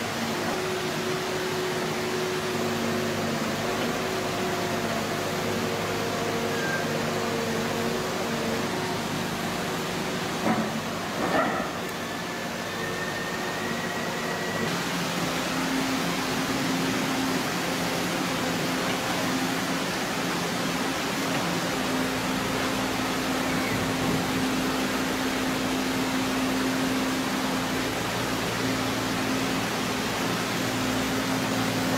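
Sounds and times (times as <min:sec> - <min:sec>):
excavator engine and hydraulics: 0:00.0 - 0:31.9.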